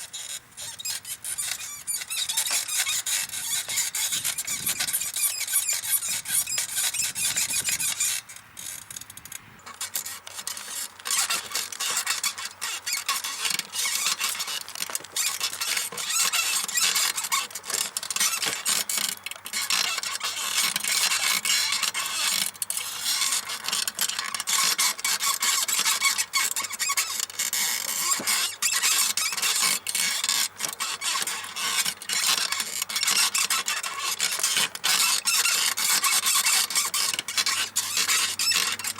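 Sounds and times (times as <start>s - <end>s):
bicycle saddle squeaking: 0.0s - 38.9s.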